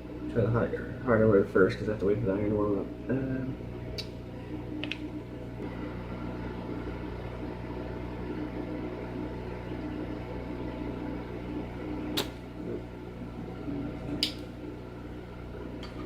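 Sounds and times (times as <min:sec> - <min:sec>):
hot air blower humming: 0:00.0 - 0:16.0.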